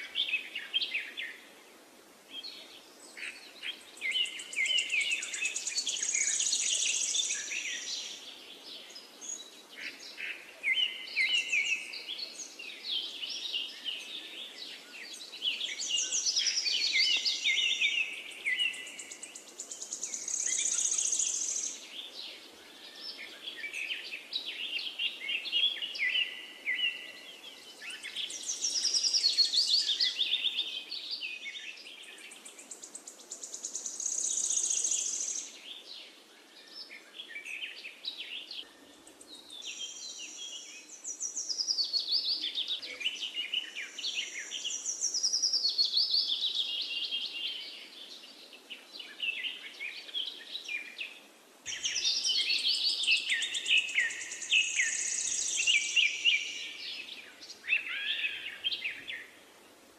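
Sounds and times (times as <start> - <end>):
birdsong chirps and trills: 2.3 - 59.9.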